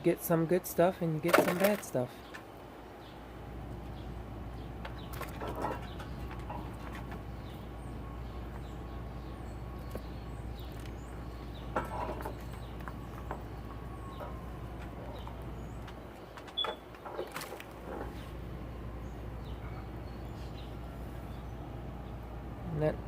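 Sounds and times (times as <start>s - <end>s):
small birds chirping: 0.5s - 23.0s.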